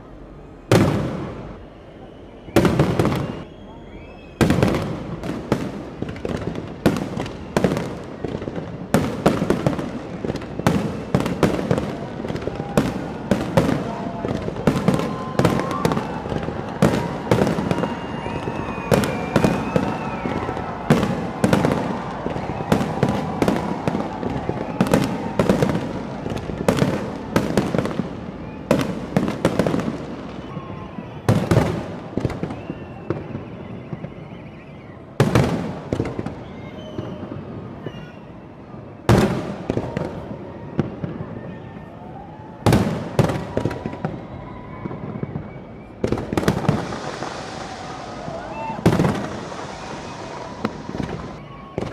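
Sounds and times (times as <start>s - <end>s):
fireworks bangs and crackles: 0.4s - 51.9s.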